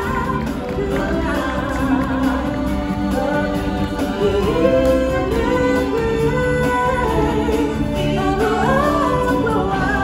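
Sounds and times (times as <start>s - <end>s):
stage show music with singing: 0.0s - 10.0s.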